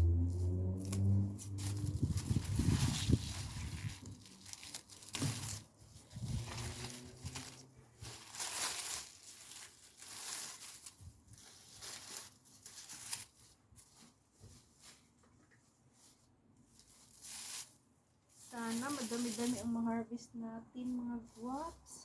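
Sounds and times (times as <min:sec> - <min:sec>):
plant stems rustling and tearing: 0:00.1 - 0:15.2, 0:16.0 - 0:19.9.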